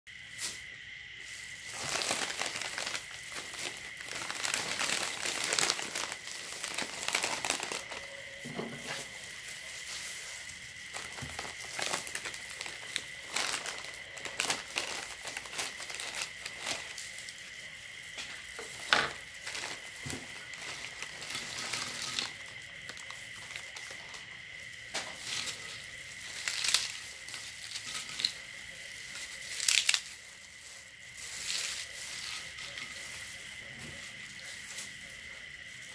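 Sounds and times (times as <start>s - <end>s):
faint high-pitched whine: 0.1s - 35.9s
plastic bag crinkling: 1.2s - 35.9s.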